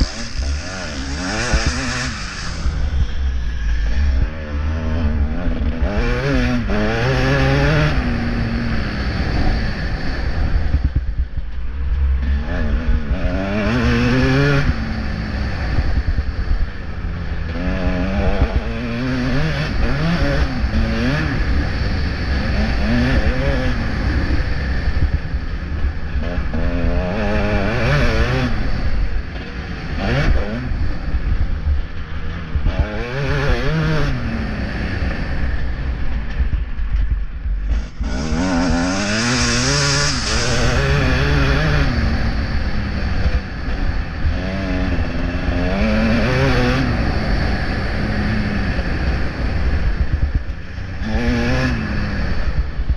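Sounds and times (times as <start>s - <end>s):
motocross engine revving: 0.0s - 11.1s, 12.1s - 52.9s
wind noise on microphone: 0.0s - 52.9s.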